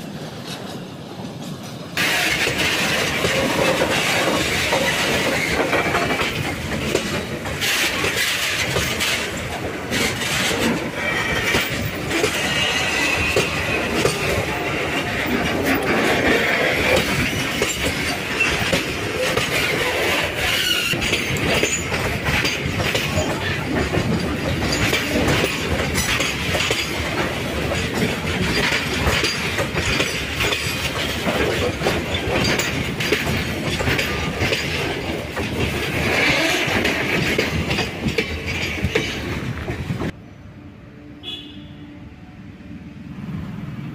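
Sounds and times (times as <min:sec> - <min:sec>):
steel wheels rumbling: 0:00.0 - 0:40.2
wheels clacking over rail joints: 0:00.0 - 0:40.2.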